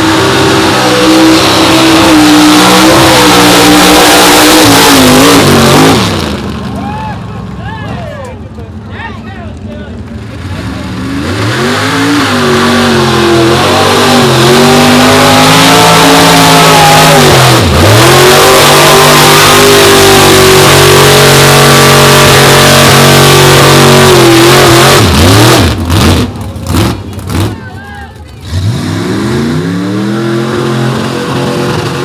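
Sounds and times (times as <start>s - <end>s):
truck engine revving high: 0.0s - 6.8s, 10.0s - 32.0s.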